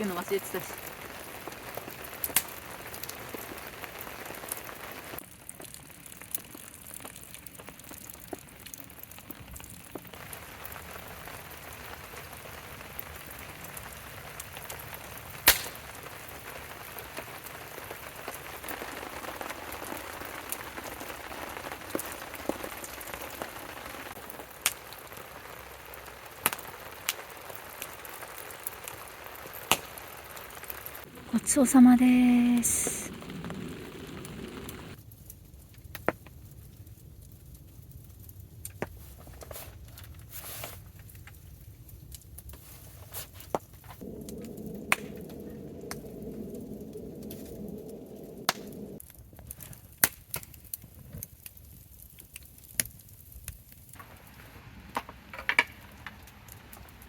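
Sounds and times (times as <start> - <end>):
rain pattering: 0.0 - 39.2, 43.4 - 57.0.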